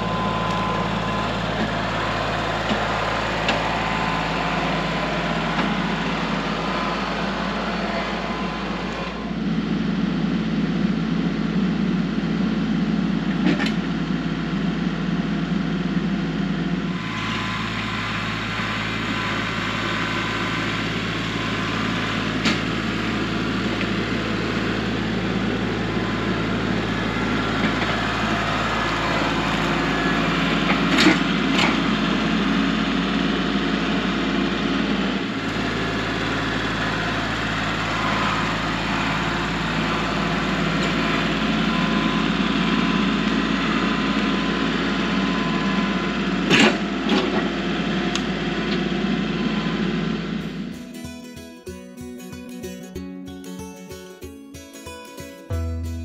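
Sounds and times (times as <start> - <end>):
tractor diesel engine running: 0.0 - 51.5, 55.4 - 56.0.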